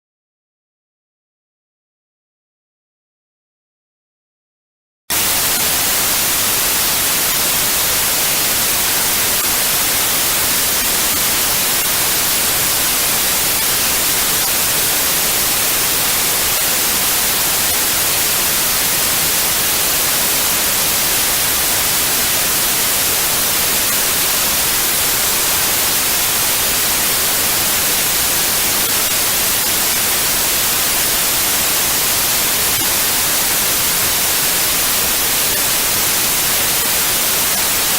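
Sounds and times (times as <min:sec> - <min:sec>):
white noise hiss: 0:05.1 - 0:37.9.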